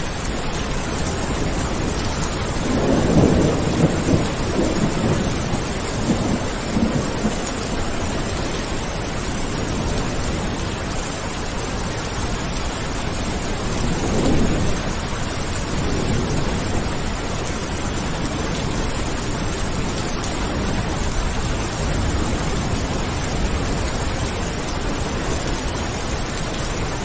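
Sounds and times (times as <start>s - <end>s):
low rumble of thunder: 0.0s - 27.0s
steady rain falling: 0.0s - 27.0s.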